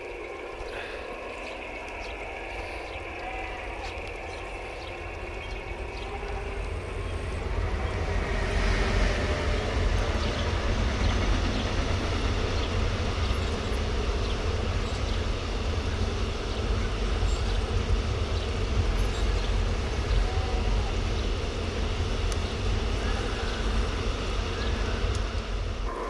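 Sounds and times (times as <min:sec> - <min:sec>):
train running on track: 0:00.0 - 0:26.0.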